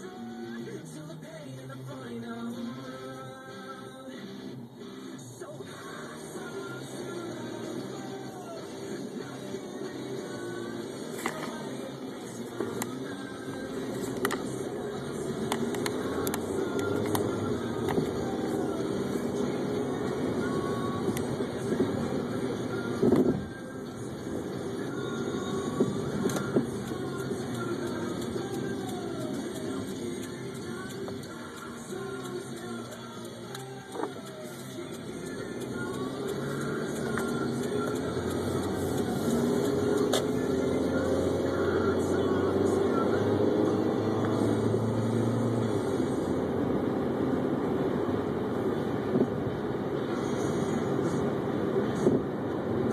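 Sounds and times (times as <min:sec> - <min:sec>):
car cabin road and engine noise: 0:00.0 - 0:52.9.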